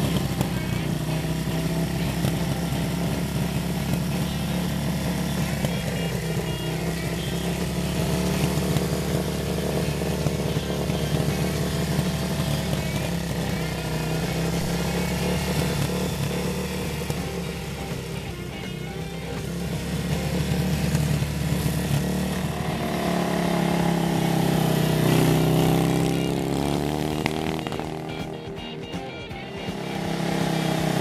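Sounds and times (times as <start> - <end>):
motorcycle engine running steadily: 0.0 - 31.0.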